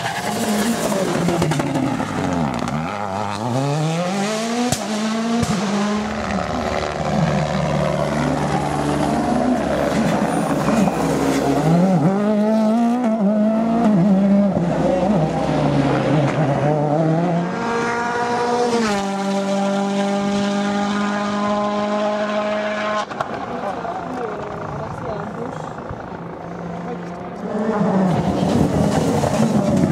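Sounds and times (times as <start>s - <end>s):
rally car engine at high revs: 0.0s - 23.9s, 25.8s - 29.9s.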